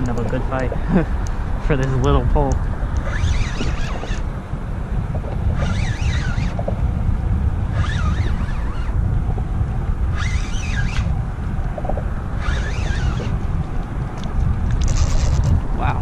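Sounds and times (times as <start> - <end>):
fishing reel gear whine: 0.0 - 15.9
wind buffeting the microphone: 0.0 - 16.0.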